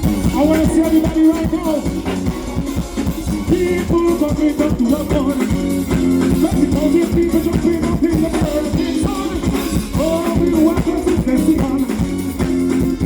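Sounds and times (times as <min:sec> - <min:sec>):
live band music: 0:00.0 - 0:13.0
person singing: 0:00.0 - 0:13.0.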